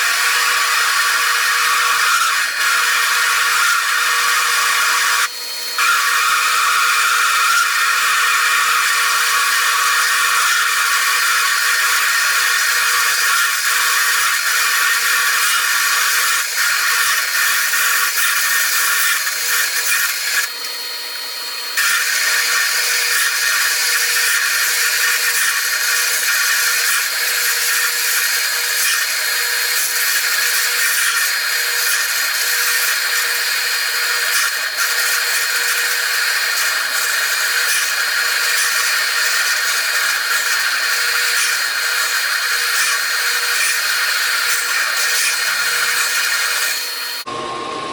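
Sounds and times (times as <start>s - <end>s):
drill bit cutting steel: 0.0s - 47.9s
lathe machine hum: 0.0s - 47.9s.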